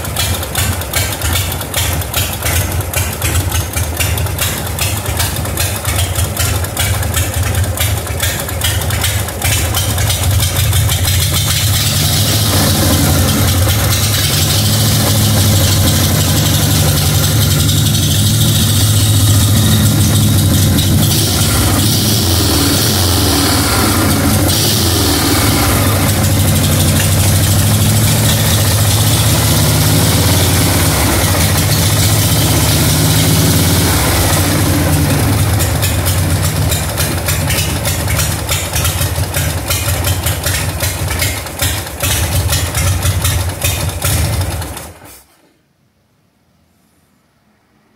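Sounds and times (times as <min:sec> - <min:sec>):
motorcycle engine idling: 0:00.0 - 0:45.1.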